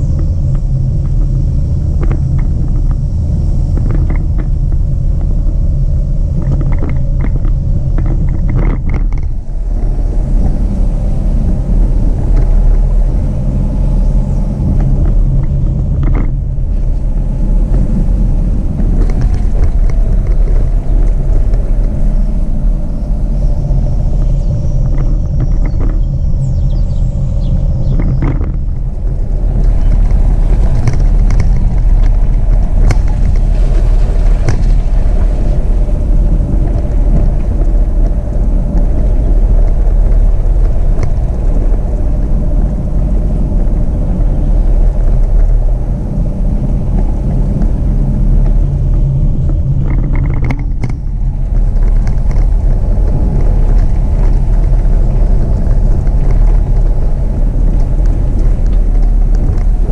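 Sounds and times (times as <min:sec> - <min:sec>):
tyres and engine rumble: 0:00.0 - 0:59.9.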